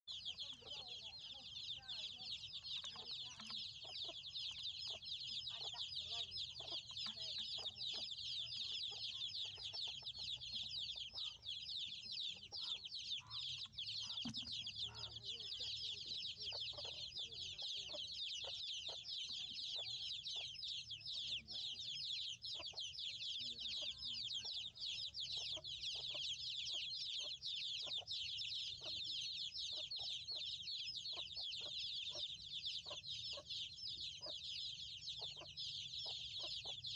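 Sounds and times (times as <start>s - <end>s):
chicks peeping: 0.0s - 36.9s.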